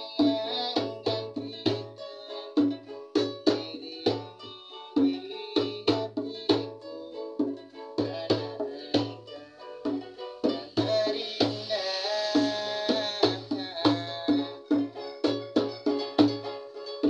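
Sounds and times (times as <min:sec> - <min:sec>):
goblet drum beat: 0:00.0 - 0:17.0
ukulele strumming chords: 0:00.0 - 0:17.0.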